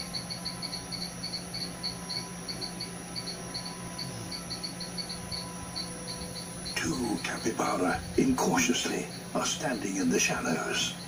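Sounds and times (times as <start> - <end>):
faint steady hum: 0.0 - 11.0
insects chirping: 0.0 - 11.0.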